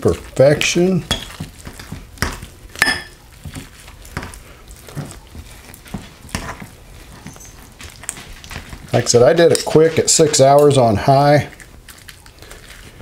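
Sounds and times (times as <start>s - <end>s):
wet squishing of meat: 0.0s - 13.0s.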